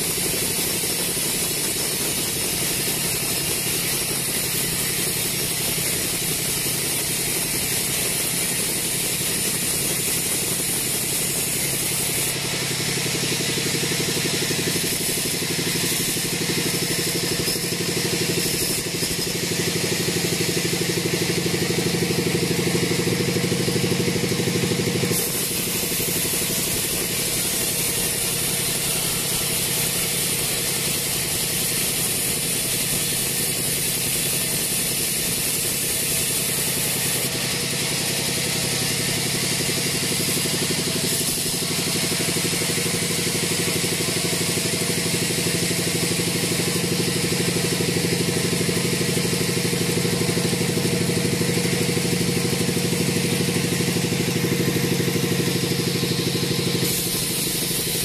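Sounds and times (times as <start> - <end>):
bandsaw cutting log: 0.0 - 58.0.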